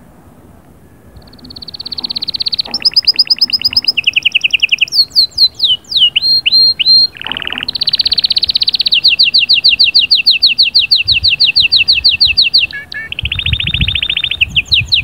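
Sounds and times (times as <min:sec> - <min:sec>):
canary singing trills: 0:01.1 - 0:15.0.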